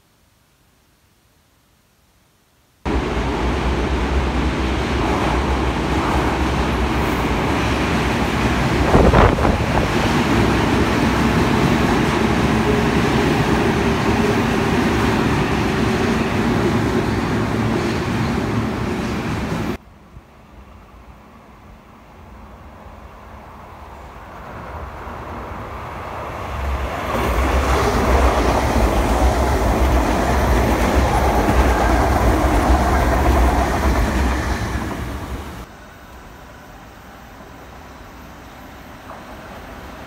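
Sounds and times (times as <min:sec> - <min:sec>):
train wheels rumbling on rail: 0:02.9 - 0:19.8, 0:23.4 - 0:40.0.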